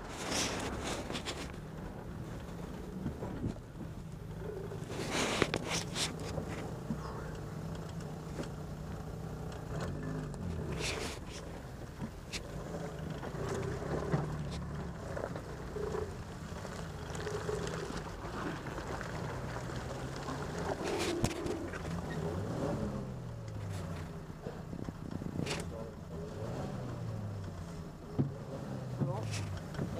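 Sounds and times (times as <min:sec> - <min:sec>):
vehicle knocks and rattles: 0:00.0 - 0:22.3, 0:26.7 - 0:29.9
jeep engine running: 0:00.0 - 0:29.9.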